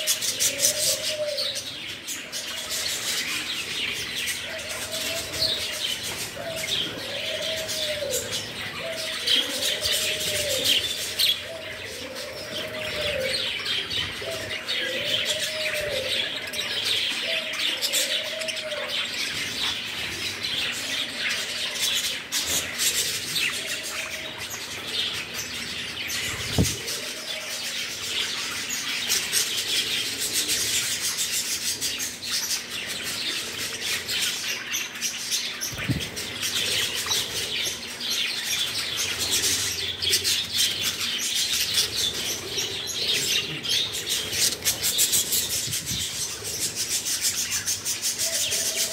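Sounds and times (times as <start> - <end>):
budgerigars chattering and chirping: 0.0 - 48.9.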